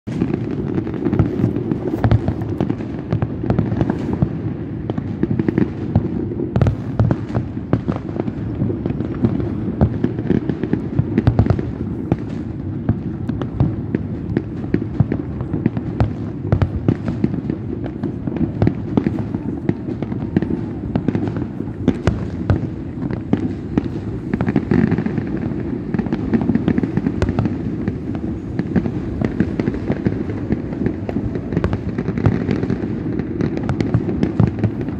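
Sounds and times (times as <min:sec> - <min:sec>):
fireworks bangs: 0:00.0 - 0:34.9.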